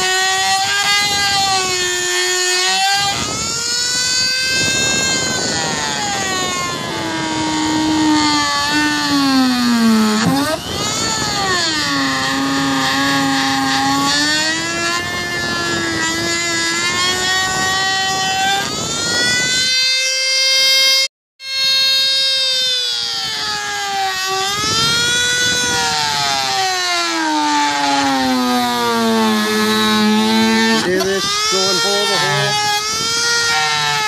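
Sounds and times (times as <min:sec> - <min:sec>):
rotary tool grinding plastic: 0:00.0 - 0:34.0.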